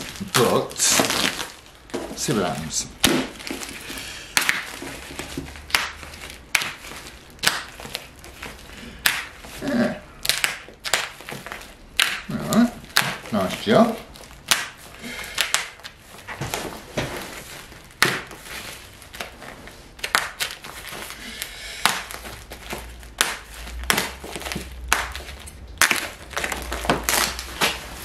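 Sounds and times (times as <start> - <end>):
tape and plastic ripping: 0.0 - 28.0.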